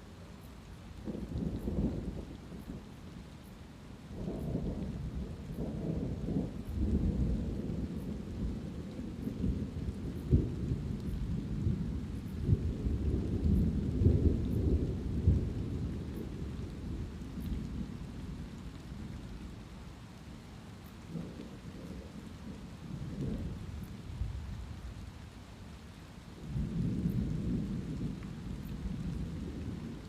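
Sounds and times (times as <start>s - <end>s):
light steady rain: 0.0s - 30.0s
thunder rumbling: 1.0s - 3.0s, 4.1s - 19.6s, 21.1s - 24.5s, 26.4s - 30.0s.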